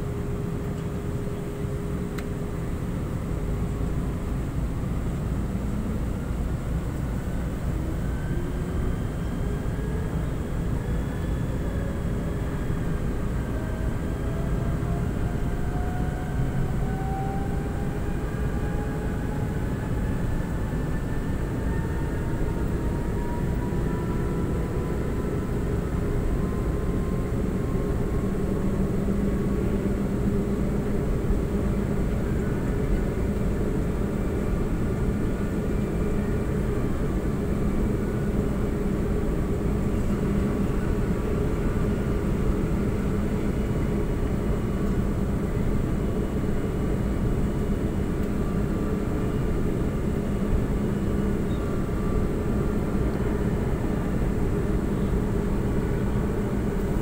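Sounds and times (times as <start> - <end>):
faint whining tones: 0.0 - 57.0
light-rail car running drone: 0.0 - 57.0.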